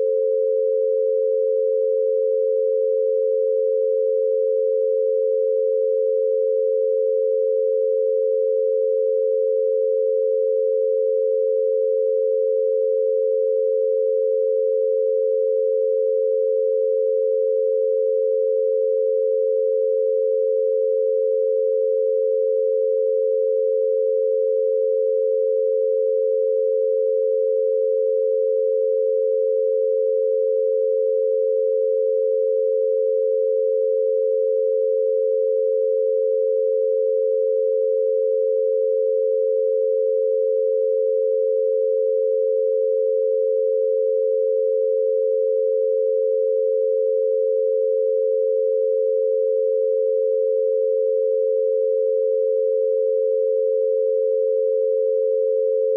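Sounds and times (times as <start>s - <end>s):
two steady pure tones: 0.0s - 55.9s.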